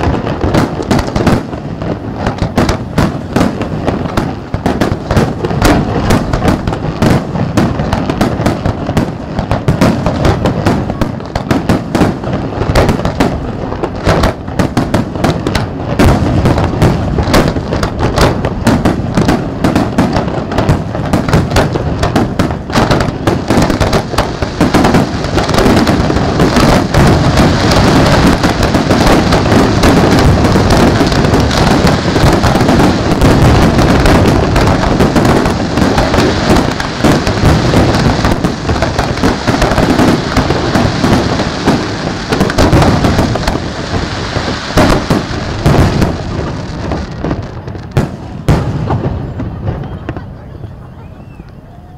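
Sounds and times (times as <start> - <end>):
firework shells bursting: 0.0 - 50.3.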